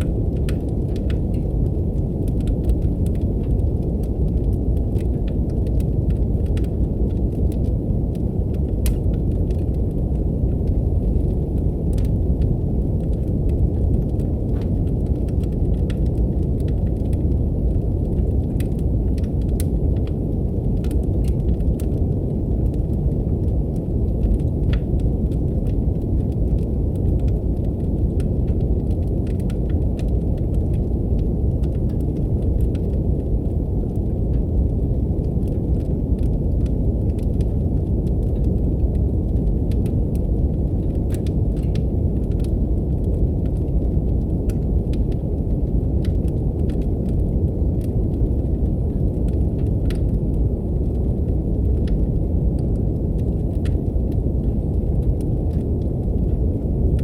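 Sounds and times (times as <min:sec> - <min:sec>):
brown noise hiss: 0:00.0 - 0:57.0
wood fire crackling: 0:00.0 - 0:57.0.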